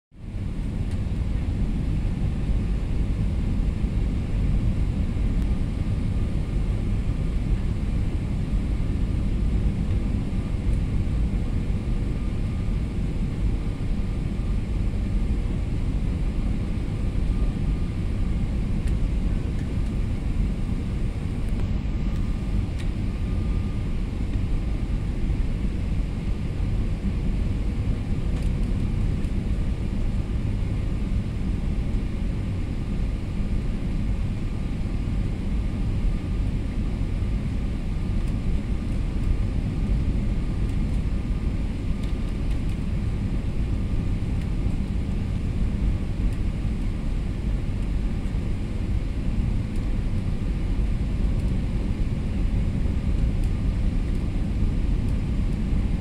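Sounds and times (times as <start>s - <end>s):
airliner cabin engine rumble: 0.2s - 56.0s.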